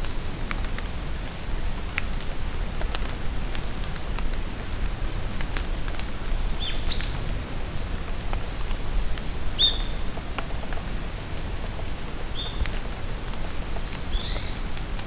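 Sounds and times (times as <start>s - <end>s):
rain in a forest: 0.0s - 15.0s.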